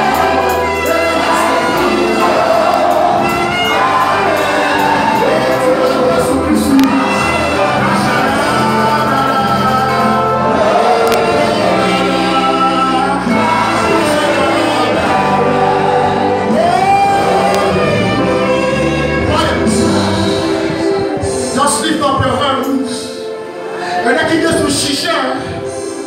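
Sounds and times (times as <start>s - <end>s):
many voices singing along: 0.0s - 21.6s
lead singer on microphone: 0.0s - 23.3s
band playing: 0.0s - 24.9s.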